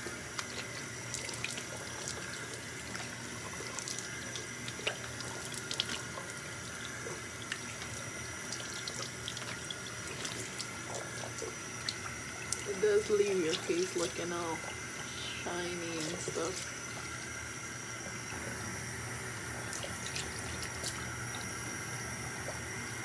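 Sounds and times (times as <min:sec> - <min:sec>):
faucet running into a sink: 0:00.0 - 0:23.0
water splashing and dripping: 0:00.0 - 0:23.0.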